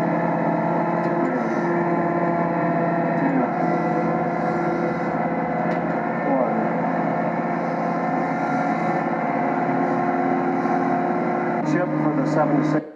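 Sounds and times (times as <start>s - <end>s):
tractor engine under heavy load: 0.0s - 12.8s.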